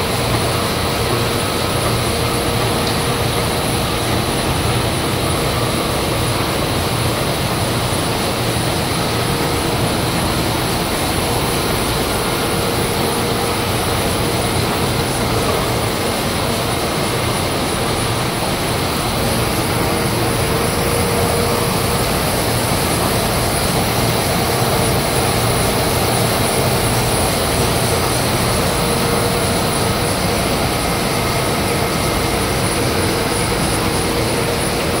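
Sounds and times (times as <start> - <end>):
printing press drone: 0.0 - 35.0
steady machine whines: 0.0 - 35.0.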